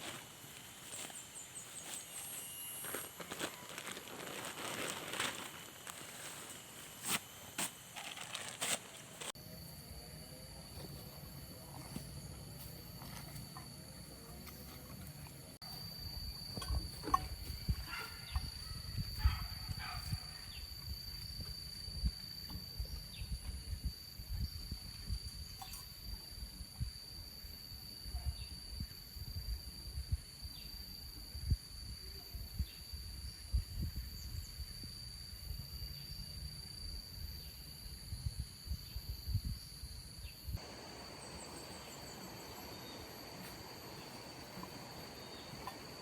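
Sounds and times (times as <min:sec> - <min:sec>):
insects calling: 0:00.0 - 0:46.0.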